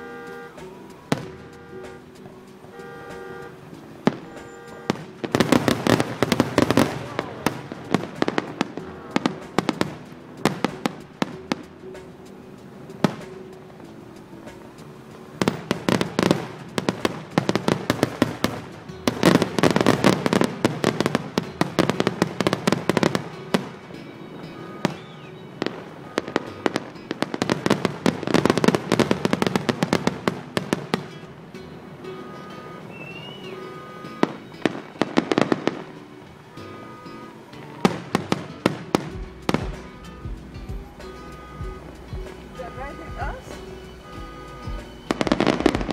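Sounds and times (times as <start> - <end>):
background music: 0.0 - 45.9
fireworks bursting and crackling: 0.0 - 45.9.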